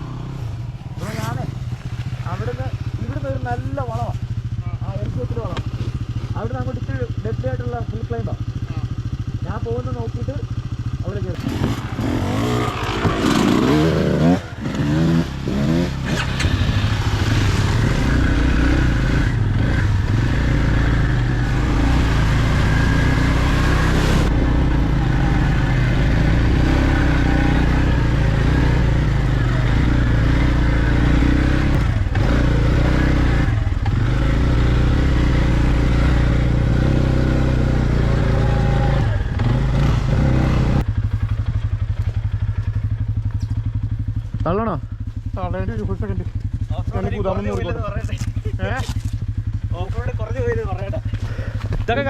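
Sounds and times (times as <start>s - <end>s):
off-road vehicle engine revving: 0.0s - 8.4s, 9.2s - 43.7s, 44.4s - 52.0s.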